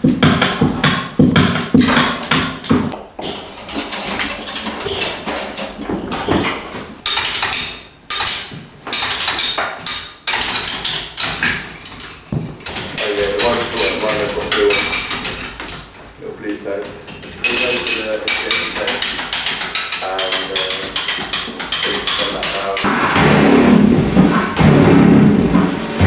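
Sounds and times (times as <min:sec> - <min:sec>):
knocks and taps: 0:00.0 - 0:15.9, 0:16.8 - 0:22.9.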